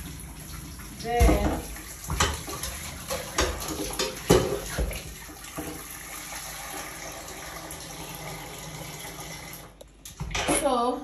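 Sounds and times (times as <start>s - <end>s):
water running from tap: 0.0s - 9.8s.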